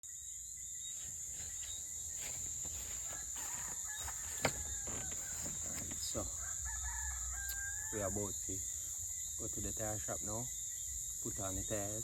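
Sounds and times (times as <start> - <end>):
steady high-pitched hiss: 0.0 - 12.0
bird calls: 0.6 - 12.0.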